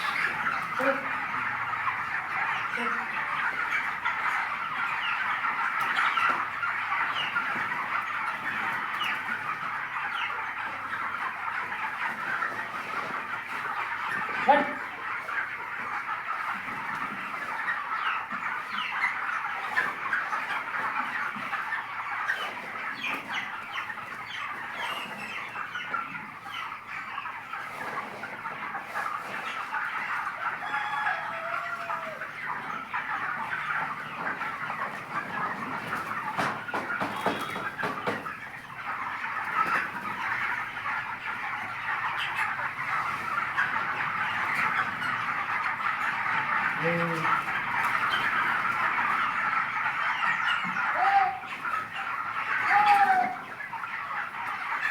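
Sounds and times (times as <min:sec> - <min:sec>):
chickens clucking and calling: 0:00.0 - 0:54.9.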